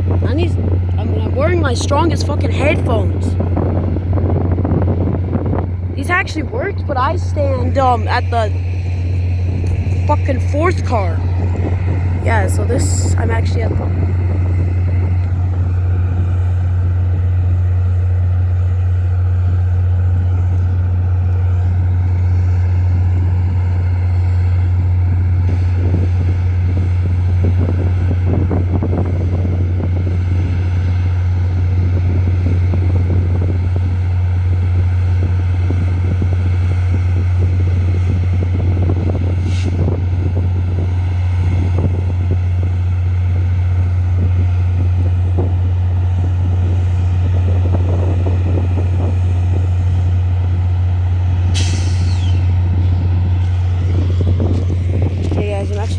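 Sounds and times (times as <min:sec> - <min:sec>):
locomotive engine drone: 0:00.0 - 0:55.9.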